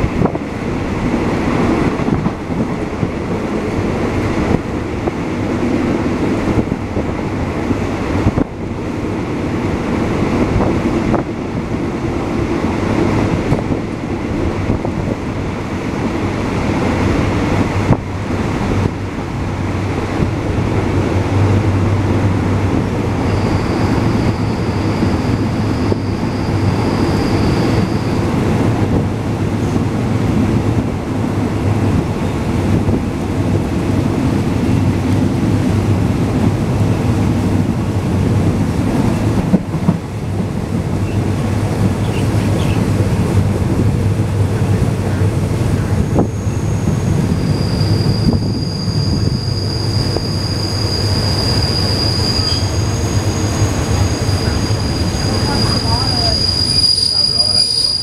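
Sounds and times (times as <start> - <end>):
wind rushing: 0.0 - 56.8
train wheels rumbling on rails: 0.0 - 58.0.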